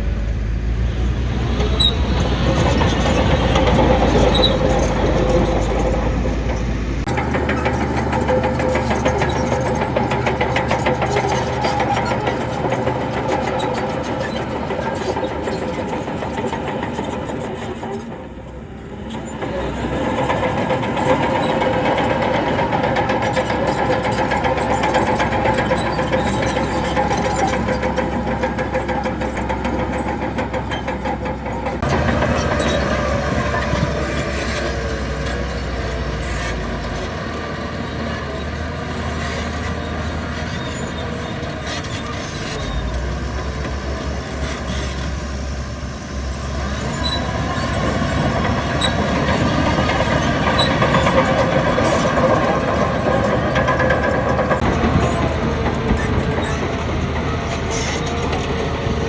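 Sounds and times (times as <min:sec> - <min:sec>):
heavy diesel machinery engines: 0:00.0 - 0:59.0.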